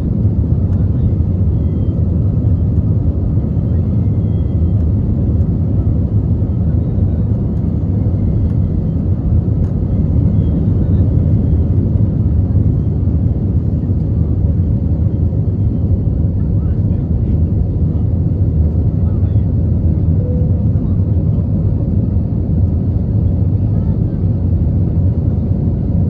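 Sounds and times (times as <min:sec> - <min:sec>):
airliner engine rumble in cabin: 0:00.0 - 0:26.0.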